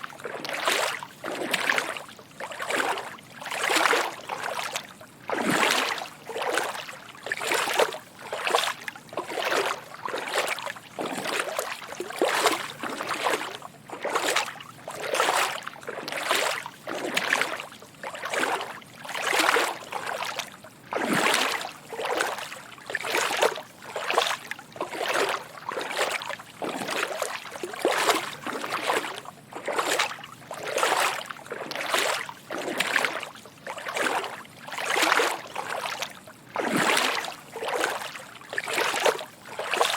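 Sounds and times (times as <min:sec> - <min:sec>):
footsteps wading through water: 0:00.0 - 0:39.9.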